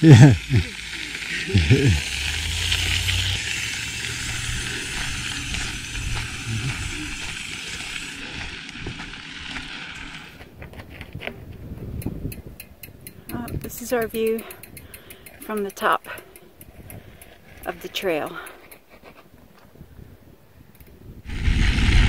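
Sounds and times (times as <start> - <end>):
freewheel hub clicking: 0.0 - 19.0
bike tyre and wind rush: 0.0 - 22.0.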